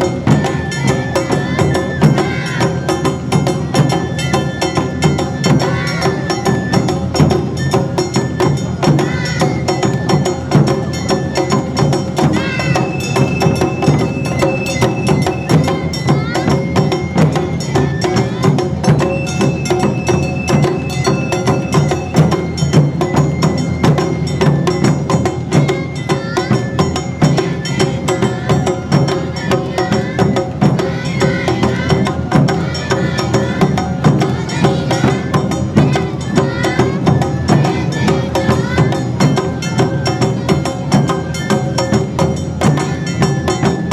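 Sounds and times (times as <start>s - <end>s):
bamboo flute: 0.0s - 43.9s
drums: 0.0s - 43.9s.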